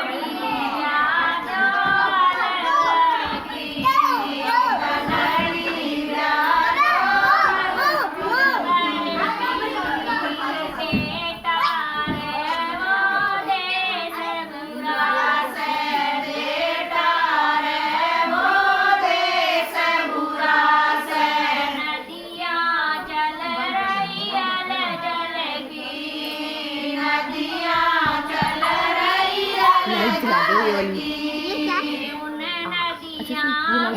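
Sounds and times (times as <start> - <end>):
voices singing folk song: 0.0 - 33.9.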